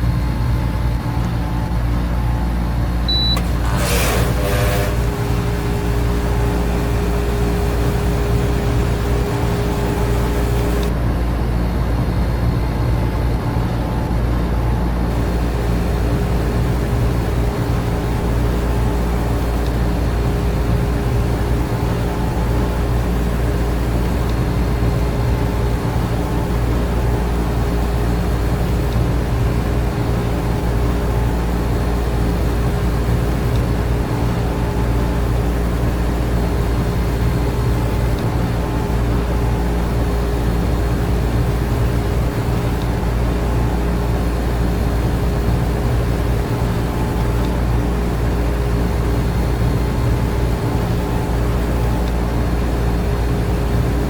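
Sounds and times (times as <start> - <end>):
air conditioner and fans humming: 0.0 - 54.0.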